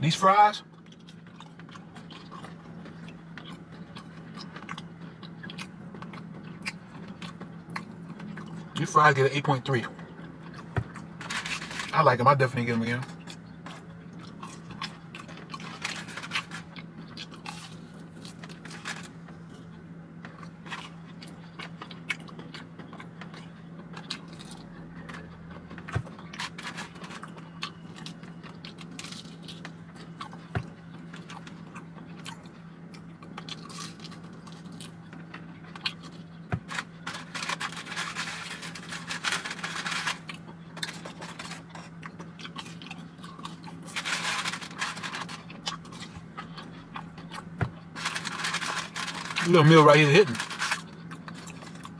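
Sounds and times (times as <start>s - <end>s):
chewing and crunching fried food: 0.0s - 51.9s.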